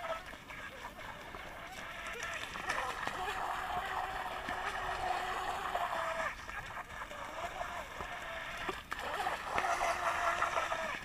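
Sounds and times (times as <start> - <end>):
rc boat motor whine: 0.0 - 11.0.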